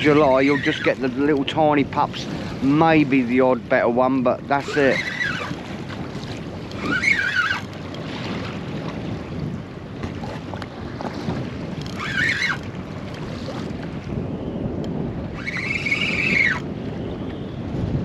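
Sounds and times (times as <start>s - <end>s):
water washing against boat hull: 0.0s - 18.0s
wind buffeting microphone: 0.0s - 18.0s.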